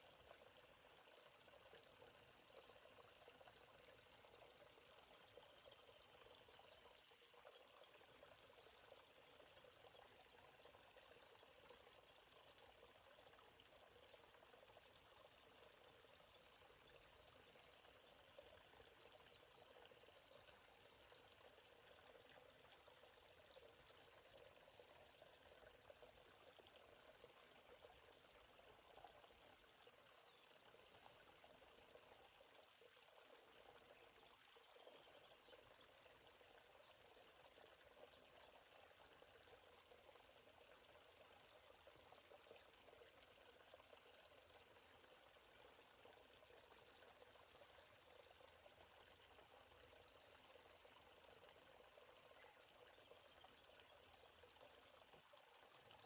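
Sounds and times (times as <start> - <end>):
forest stream murmuring: 0.0 - 56.0
high-pitched insect chorus: 0.0 - 56.0.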